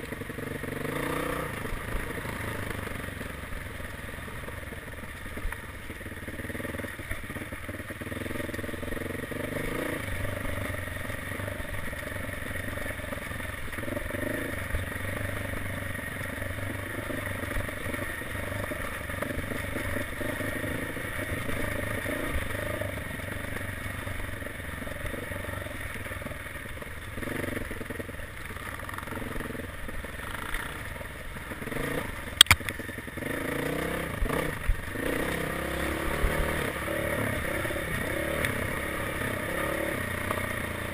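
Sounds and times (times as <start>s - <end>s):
dirt bike engine revving: 0.2s - 3.6s, 6.2s - 25.8s, 27.2s - 40.9s.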